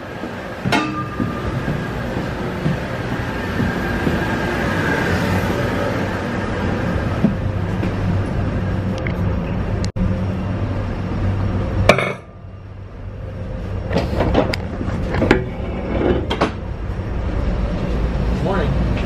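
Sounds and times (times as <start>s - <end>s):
machinery and ventilation hum: 0.0s - 19.0s.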